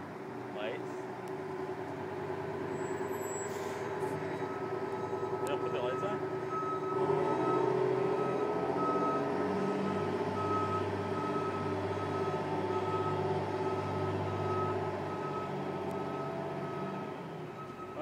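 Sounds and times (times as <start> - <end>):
diesel engine drone: 0.0 - 18.0
truck backup alarm beeping: 2.7 - 18.0.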